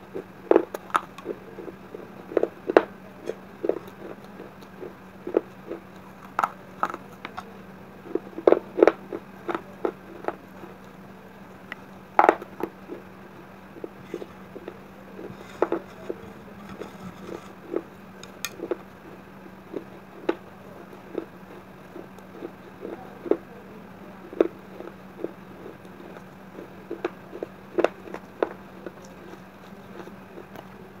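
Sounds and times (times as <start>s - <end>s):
low steady hum: 0.0s - 31.0s
crunchy chewing: 0.1s - 23.5s, 24.2s - 31.0s.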